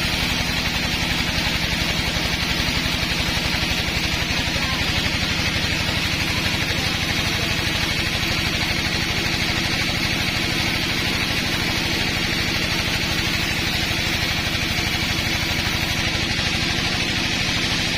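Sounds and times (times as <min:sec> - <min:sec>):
sawmill engine pulsing: 0:00.0 - 0:17.9.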